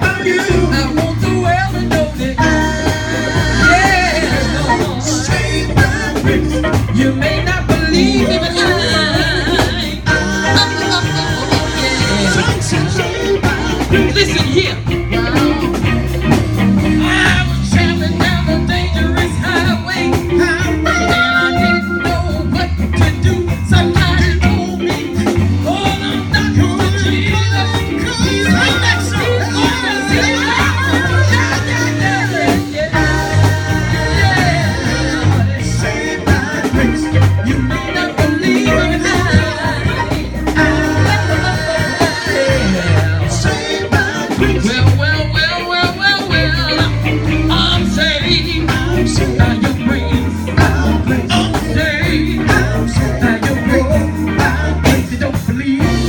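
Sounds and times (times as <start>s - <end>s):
bass line: 0.0s - 56.0s
gospel band music: 0.0s - 56.0s
person singing: 0.0s - 56.0s.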